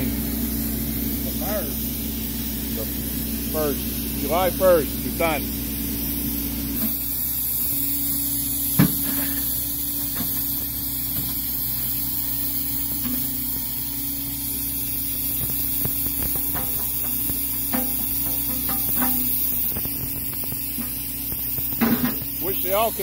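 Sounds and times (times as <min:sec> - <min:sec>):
excavator engine and hydraulics: 0:00.0 - 0:23.0.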